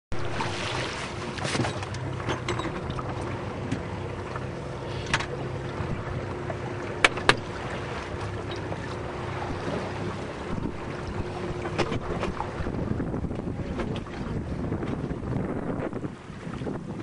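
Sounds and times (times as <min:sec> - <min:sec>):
boat motor running: 0:00.1 - 0:17.0
wind and water rushing: 0:00.1 - 0:17.0.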